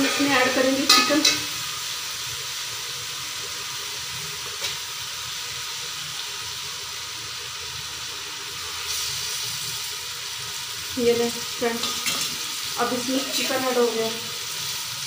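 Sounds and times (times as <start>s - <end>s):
masala hissing in a pot: 0.0s - 15.0s.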